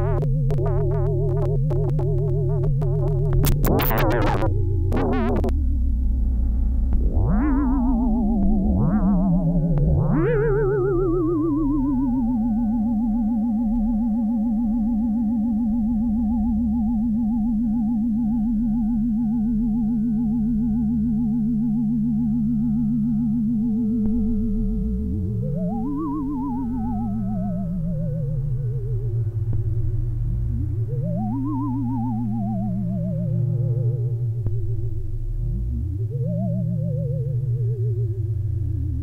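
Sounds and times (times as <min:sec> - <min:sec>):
swooping synthesizer tones: 0:00.0 - 0:39.0
low drone: 0:04.3 - 0:39.0.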